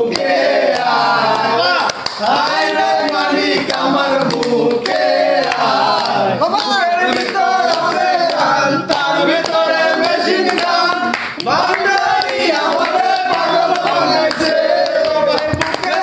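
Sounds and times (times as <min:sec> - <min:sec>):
hands clapping to beat: 0:00.0 - 0:16.0
young men singing in unison: 0:00.0 - 0:16.0.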